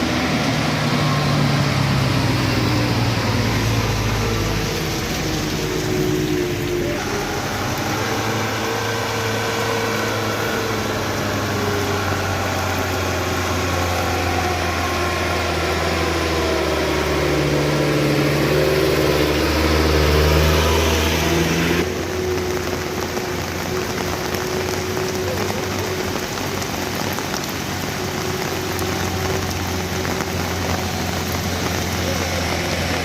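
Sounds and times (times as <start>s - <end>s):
heavy vehicle engine humming: 0.0s - 33.0s.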